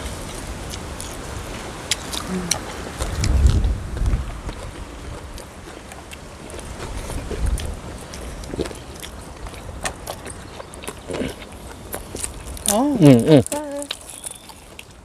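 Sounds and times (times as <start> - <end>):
chewing crispy fried food: 0.0 - 15.0.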